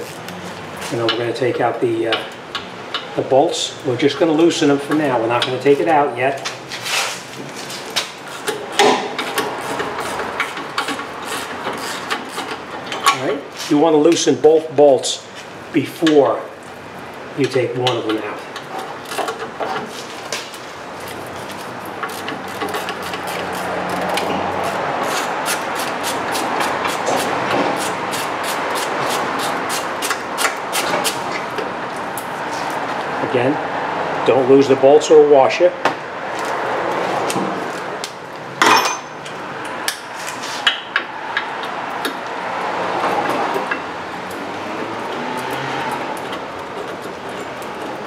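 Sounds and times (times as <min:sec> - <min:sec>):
steady background noise: 0:00.0 - 0:48.0.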